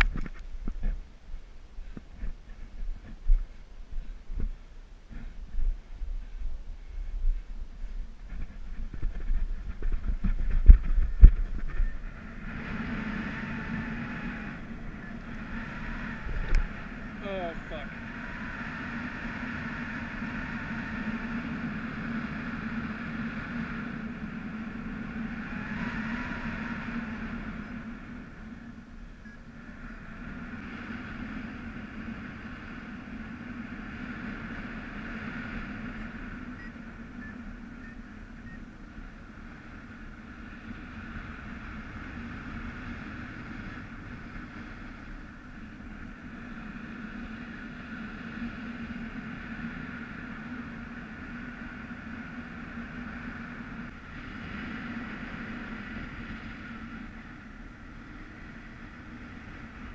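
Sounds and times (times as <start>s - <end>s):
wind rumbling over microphone: 0.0s - 59.9s.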